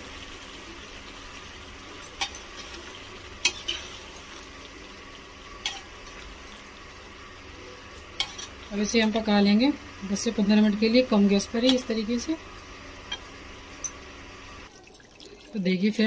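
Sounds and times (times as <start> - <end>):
gravy sizzling: 0.0 - 16.0.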